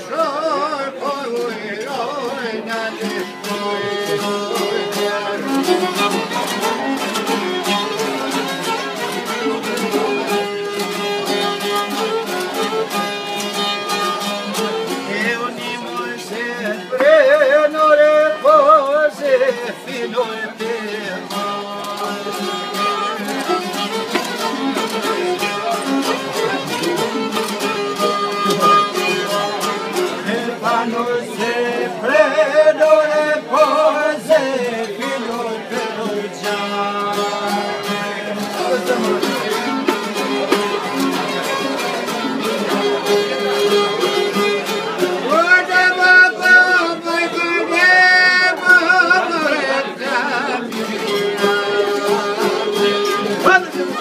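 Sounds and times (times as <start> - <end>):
plucked lutes playing: 0.0 - 54.0.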